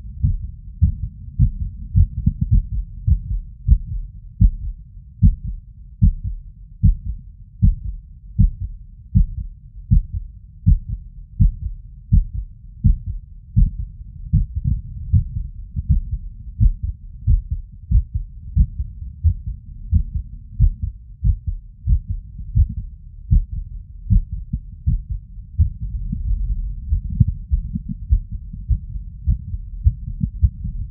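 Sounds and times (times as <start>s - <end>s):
heartbeat through stethoscope: 0.0s - 30.9s.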